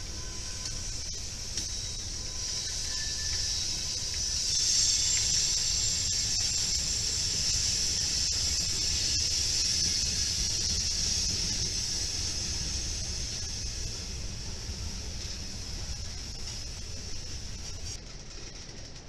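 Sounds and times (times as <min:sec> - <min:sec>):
high-pitched hiss: 0:00.0 - 0:18.0.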